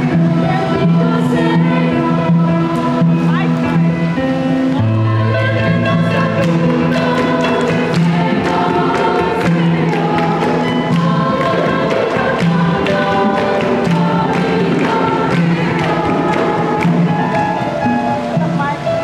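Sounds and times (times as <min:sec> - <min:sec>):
children's choir singing: 0:00.0 - 0:18.8
instrumental accompaniment with beat: 0:00.0 - 0:19.0.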